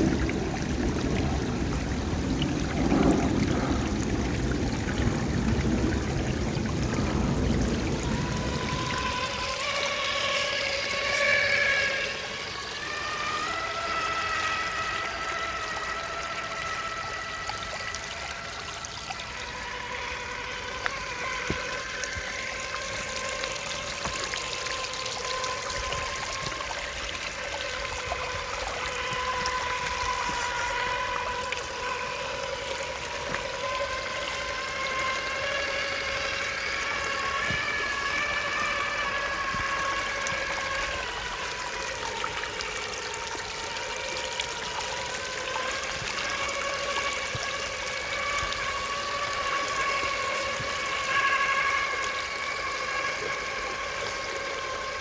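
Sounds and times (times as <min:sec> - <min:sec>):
electric motor whining: 0:05.8 - 0:55.0.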